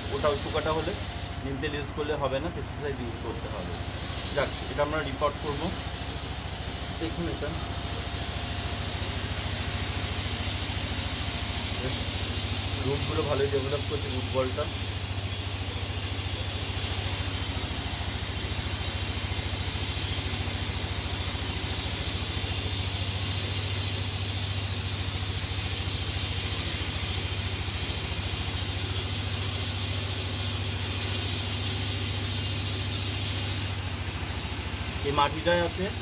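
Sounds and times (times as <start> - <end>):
constant hiss: 0.0 - 36.0
low hum of machinery: 0.0 - 36.0.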